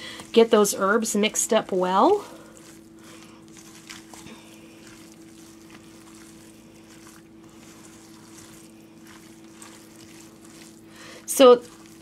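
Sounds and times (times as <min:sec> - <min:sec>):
steady low hum: 0:00.0 - 0:12.0
spatula scraping in a pot: 0:02.1 - 0:12.0.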